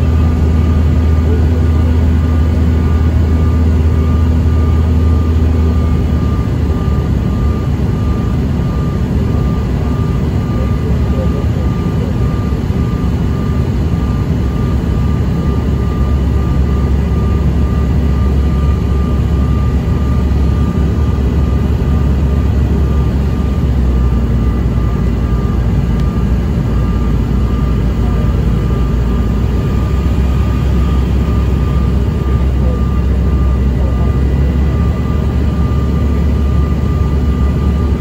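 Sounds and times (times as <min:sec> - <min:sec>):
airplane cabin roar: 0:00.0 - 0:38.0
thin steady whine: 0:00.0 - 0:38.0.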